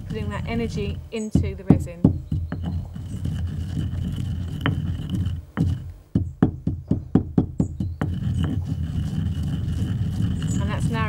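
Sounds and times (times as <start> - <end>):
pestle knocking in a mortar: 0.0 - 11.0.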